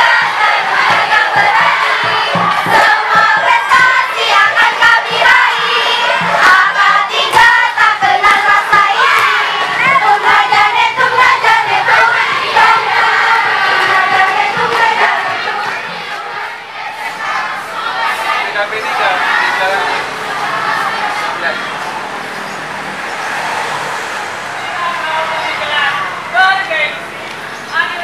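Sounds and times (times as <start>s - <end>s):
crowd chanting: 0.0s - 27.3s.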